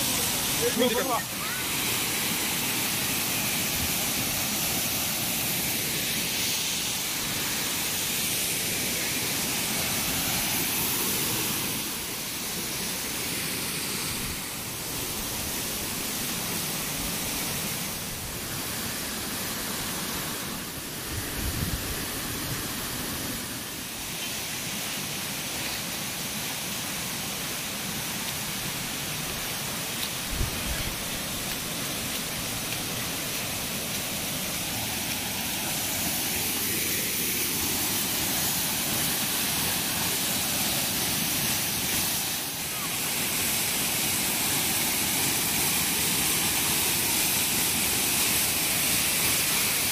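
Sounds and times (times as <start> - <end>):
waterfall roaring: 0.0 - 49.9.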